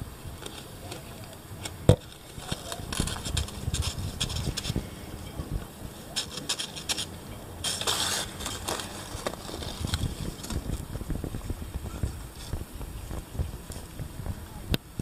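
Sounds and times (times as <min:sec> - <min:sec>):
dry leaf crackling: 0:00.4 - 0:05.2, 0:06.0 - 0:14.4.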